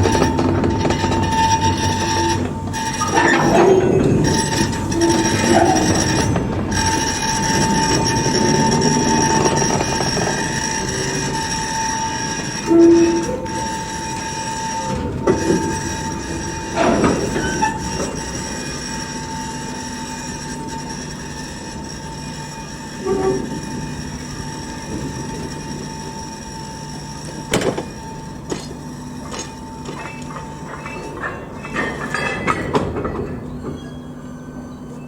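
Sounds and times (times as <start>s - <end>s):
train clanks: 0.0s - 35.0s
train rumbling on rails: 0.0s - 35.0s
train wheels squealing: 0.0s - 35.0s.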